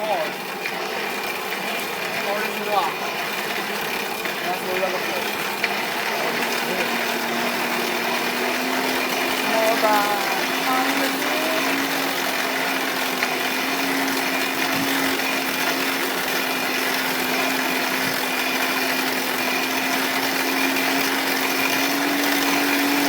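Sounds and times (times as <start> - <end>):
motor hum: 0.0 - 23.0
air blower rushing: 2.1 - 23.0.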